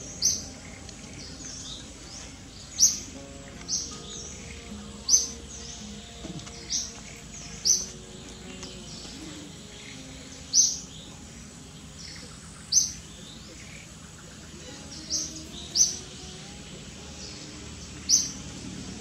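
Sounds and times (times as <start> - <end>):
bird chirping: 0.0 - 19.0
steady background hiss: 0.0 - 19.0.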